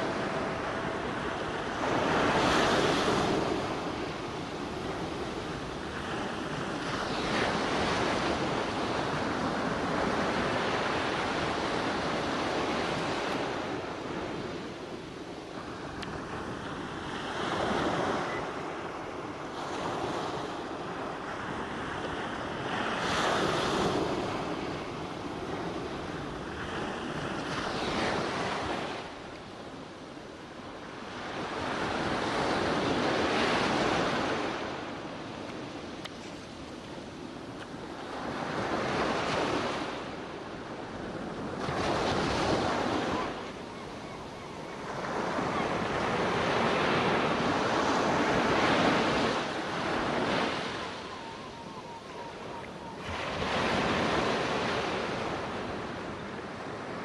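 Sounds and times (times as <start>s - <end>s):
ocean waves rushing in: 0.0s - 57.0s.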